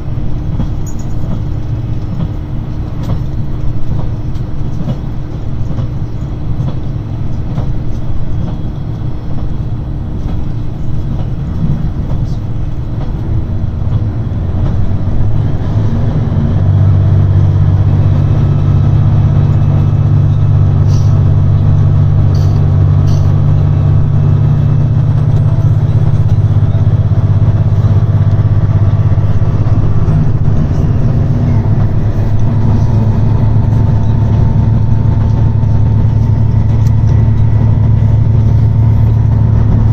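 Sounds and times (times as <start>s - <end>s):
diesel engine drone: 0.0s - 39.9s
railcar rumbling ride: 0.0s - 39.9s.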